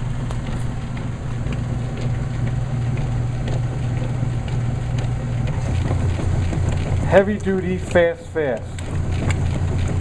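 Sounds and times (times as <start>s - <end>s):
washing machine humming: 0.0s - 10.0s.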